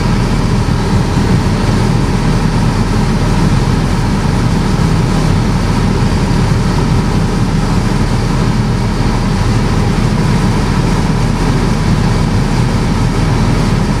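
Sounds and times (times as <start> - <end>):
aircraft piston engine and propeller: 0.0 - 14.0.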